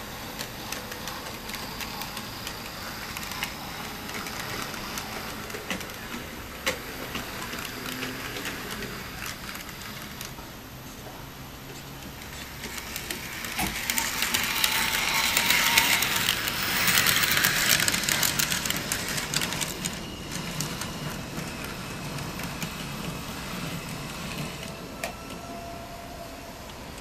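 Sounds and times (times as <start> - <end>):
wheels clicking over rail joints: 0.0 - 25.6
model tram running on track: 0.0 - 27.0.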